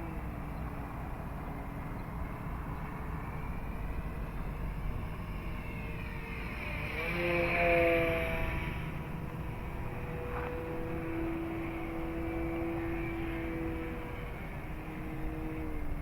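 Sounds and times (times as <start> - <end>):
model plane propeller whine: 0.0 - 16.0.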